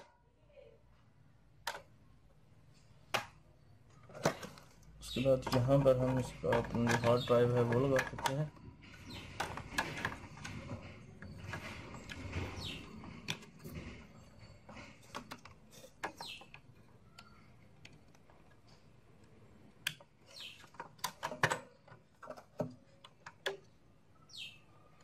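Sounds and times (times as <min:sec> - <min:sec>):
parts clicking and scraping: 0:01.6 - 0:25.0.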